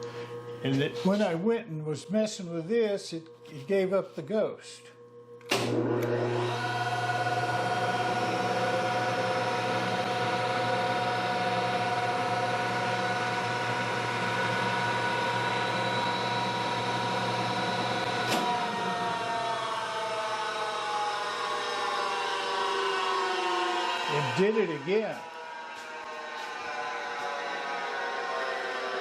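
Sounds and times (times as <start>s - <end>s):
electric motors humming and whining: 0.0s - 29.0s.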